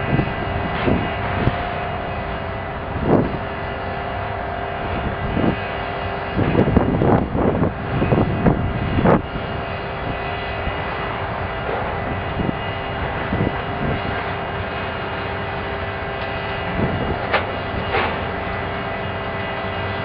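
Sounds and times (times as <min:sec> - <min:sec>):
excavator diesel engines and hydraulics: 0:00.0 - 0:20.0.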